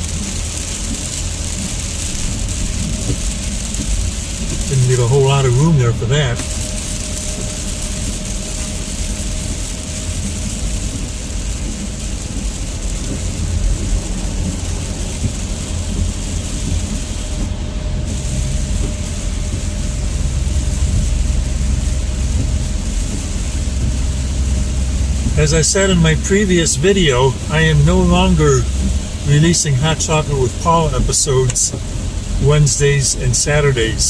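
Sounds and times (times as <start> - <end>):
engine and tyre rumble: 0.0 - 34.0
tyres hissing on wet pavement: 0.0 - 34.0.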